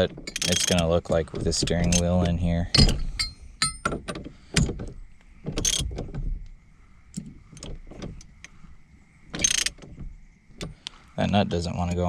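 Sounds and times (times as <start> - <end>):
clicks and knocks of steering wheel: 0.0 - 6.6, 7.2 - 8.6, 9.3 - 11.0.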